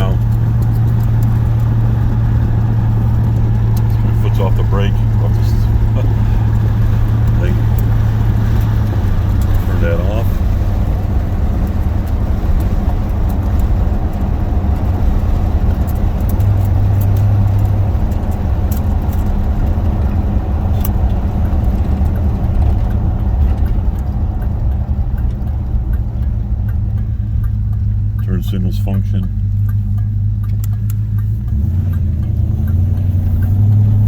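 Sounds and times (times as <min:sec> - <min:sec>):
car engine and exhaust rumble: 0:00.0 - 0:34.0
road noise: 0:00.0 - 0:34.0.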